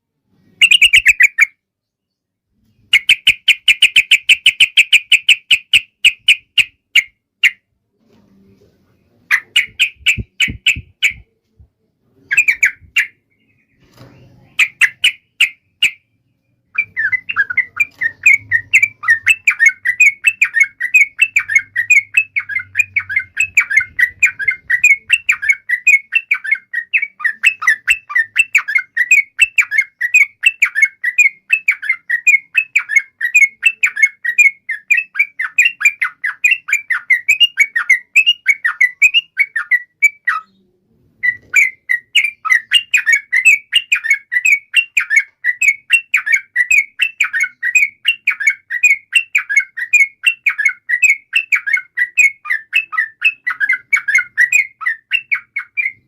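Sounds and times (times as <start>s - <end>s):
bird singing rapid chattering notes: 0.5s - 7.6s, 9.3s - 11.3s, 12.3s - 56.0s.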